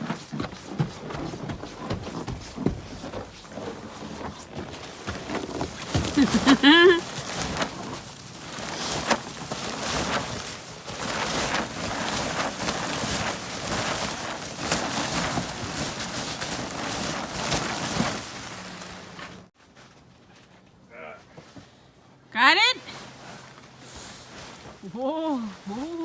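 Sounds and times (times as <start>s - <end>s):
snow crunching and scraping: 0.0s - 20.1s, 22.8s - 26.0s.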